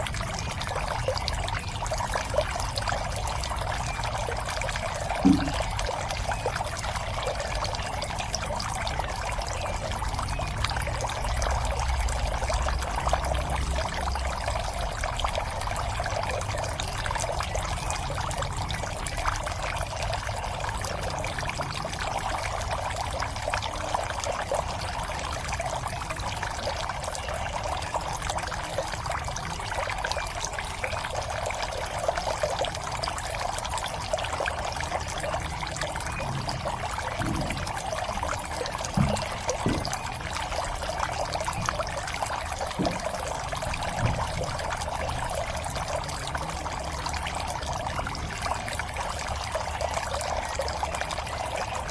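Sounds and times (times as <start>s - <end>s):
water pouring into a pond: 0.0s - 51.9s.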